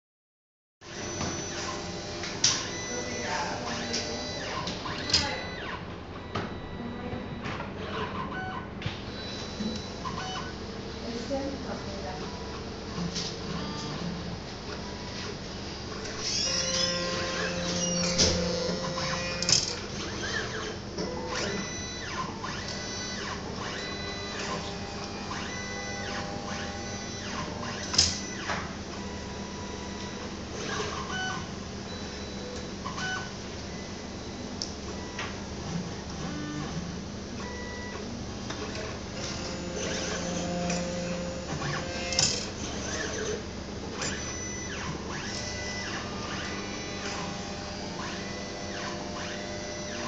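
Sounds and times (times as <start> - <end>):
steady machine hum: 0.8 - 50.0
motors whirring: 0.9 - 8.4, 12.2 - 50.0.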